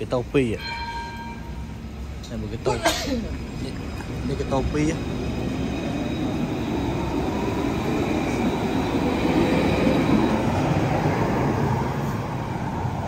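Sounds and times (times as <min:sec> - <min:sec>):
faint high whining tones: 0:00.0 - 0:11.2
train rumbling on rails: 0:00.0 - 0:13.0.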